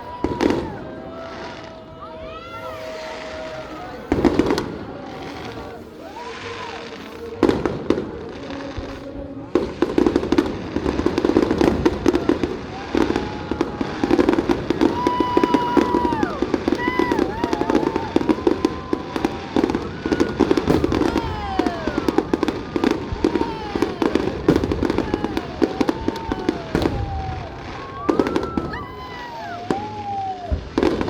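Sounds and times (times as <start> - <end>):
firework whistles gliding down: 0.0 - 7.7, 10.9 - 31.0
fireworks crackling and popping: 0.0 - 31.0.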